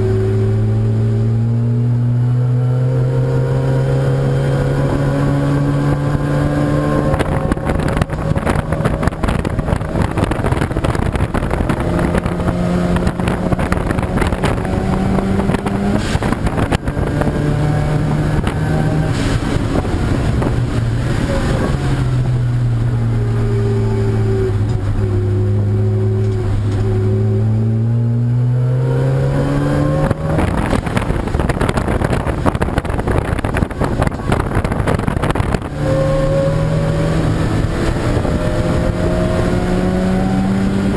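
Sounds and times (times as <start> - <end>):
race car engines: 0.0 - 40.9.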